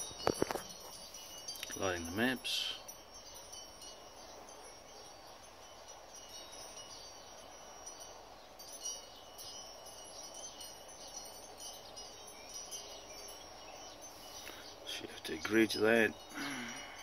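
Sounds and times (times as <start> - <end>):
high tinkling chime tones: 0.0 - 17.0
low background hiss: 0.0 - 17.0.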